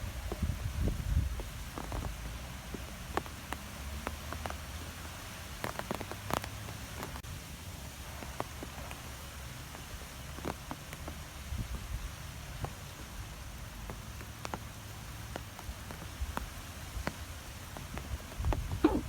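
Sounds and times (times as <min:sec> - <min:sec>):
wind rumble on microphone: 0:00.0 - 0:07.2, 0:08.0 - 0:14.7, 0:15.3 - 0:19.0
wind blowing through trees: 0:00.0 - 0:19.0
light ticks and taps: 0:01.2 - 0:07.2, 0:08.1 - 0:19.0.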